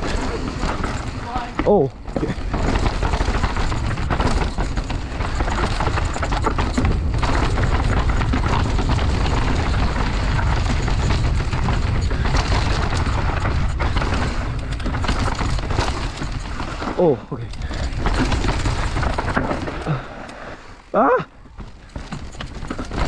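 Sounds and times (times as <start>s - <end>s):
bike rattling and knocking: 0.0s - 23.0s
tyres on loose dirt: 0.0s - 23.0s.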